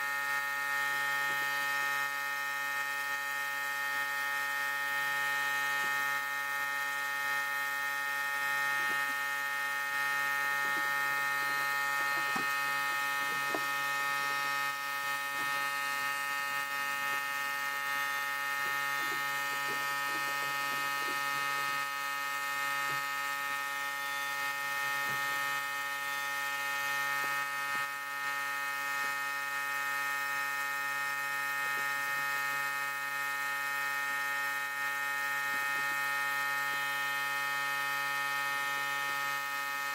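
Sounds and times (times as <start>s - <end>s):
power tool motor whine: 0.0s - 39.9s.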